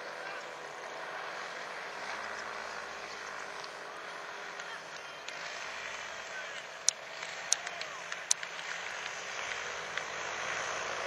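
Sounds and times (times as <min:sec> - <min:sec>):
paramotor engine droning: 0:00.0 - 0:11.0.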